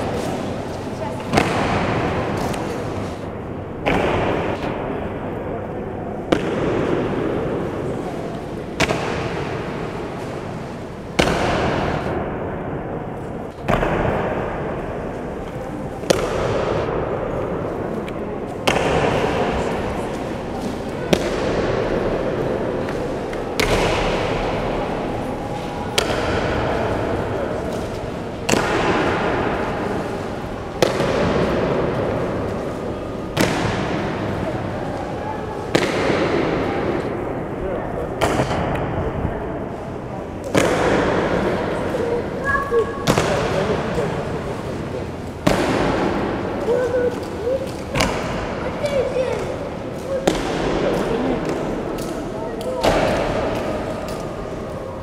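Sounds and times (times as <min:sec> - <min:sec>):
murmur of room noise: 0:00.0 - 0:55.0.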